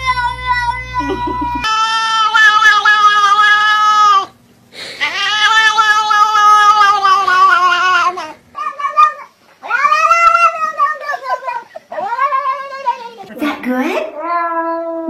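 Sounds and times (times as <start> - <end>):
cat meowing: 0.0 - 4.4, 5.0 - 13.3.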